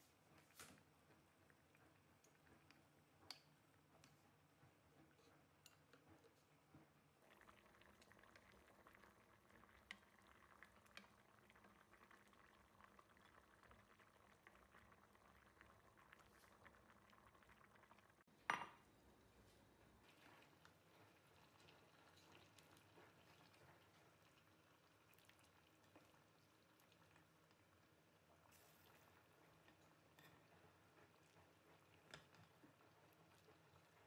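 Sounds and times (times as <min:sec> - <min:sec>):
pot bubbling with tiny pops: 0:00.0 - 0:34.0.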